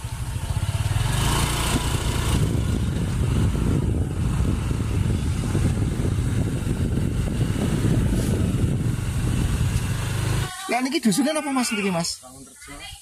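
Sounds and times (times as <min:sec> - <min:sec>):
motorcycle engine rumble: 0:00.0 - 0:10.6.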